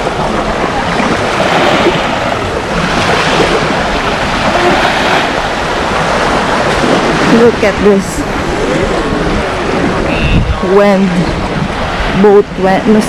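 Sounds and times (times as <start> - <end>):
sea waves washing onto beach: 0.0 - 13.0
wind buffeting microphone: 0.0 - 13.0.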